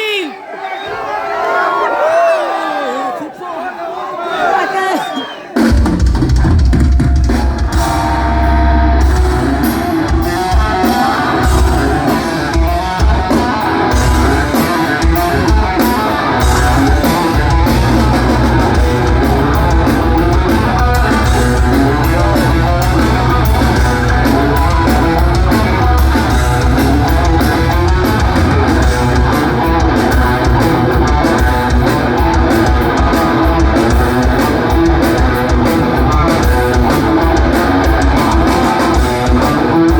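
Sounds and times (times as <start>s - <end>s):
heavy metal band playing: 5.6s - 39.9s.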